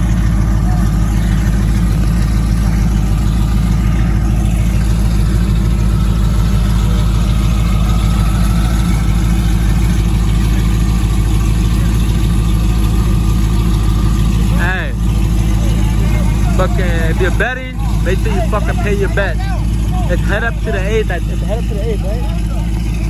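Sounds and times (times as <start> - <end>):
vehicle engines idling loudly: 0.0 - 23.0.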